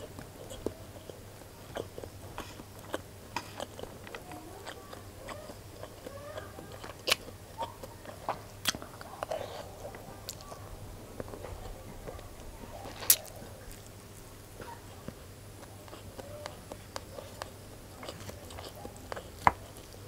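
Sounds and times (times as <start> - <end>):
chewing and mouth smacks: 0.0 - 20.0.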